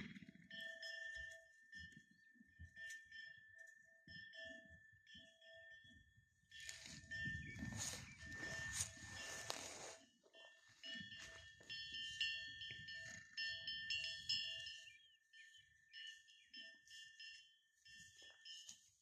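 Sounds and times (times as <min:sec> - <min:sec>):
small bells jingling: 0:00.0 - 0:19.0.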